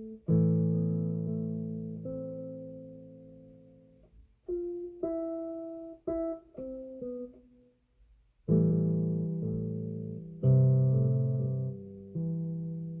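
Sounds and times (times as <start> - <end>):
electronic keyboard piano notes: 0.0 - 7.7, 8.5 - 13.0.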